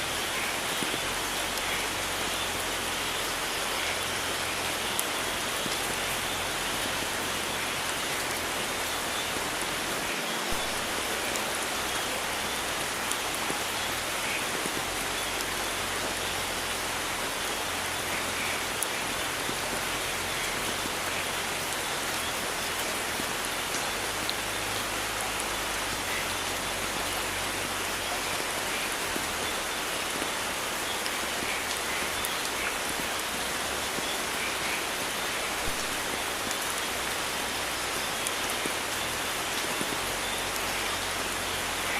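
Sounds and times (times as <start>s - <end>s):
heavy rain hiss: 0.0s - 41.9s.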